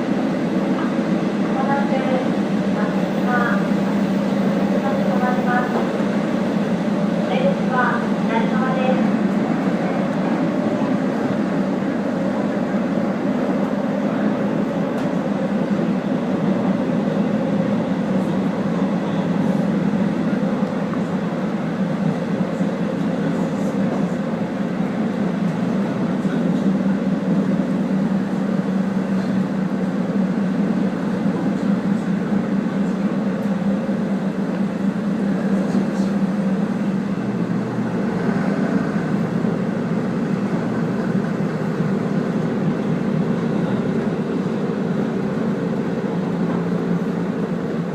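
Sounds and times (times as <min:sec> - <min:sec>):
train engine and wheels rumbling: 0:00.0 - 0:47.9.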